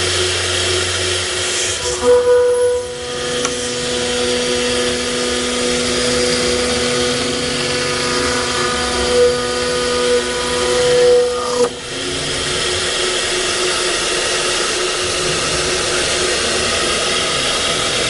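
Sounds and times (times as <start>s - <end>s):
machine hum: 0.0s - 18.0s
router spindle high whine: 0.0s - 18.0s.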